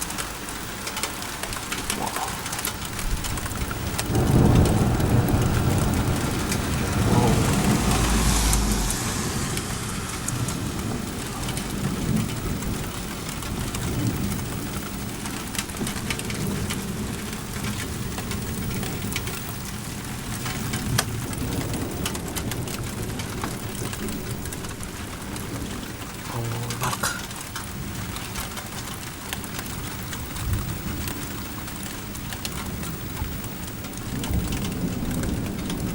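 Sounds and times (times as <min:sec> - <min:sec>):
heavy rain on hard surface: 0:00.0 - 0:35.9
low thunder rumble: 0:00.0 - 0:35.9.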